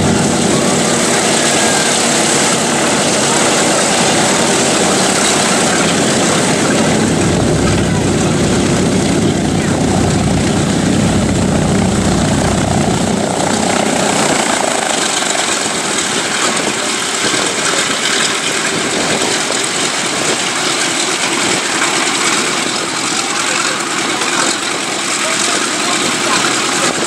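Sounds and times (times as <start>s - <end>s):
propeller aircraft engines rumbling: 0.0s - 27.0s.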